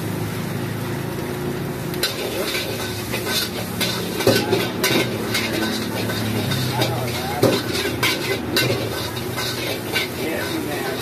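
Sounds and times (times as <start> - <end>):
noodles sizzling in a wok: 0.0 - 11.0
metal spatula scraping wok: 2.0 - 11.0.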